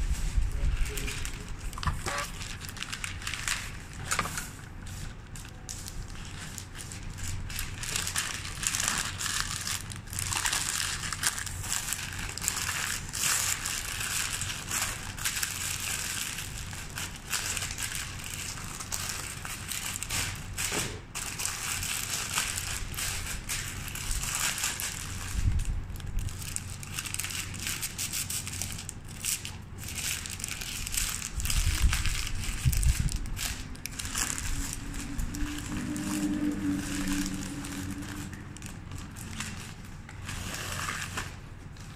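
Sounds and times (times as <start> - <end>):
wrapping paper crinkling: 0.0 - 41.9.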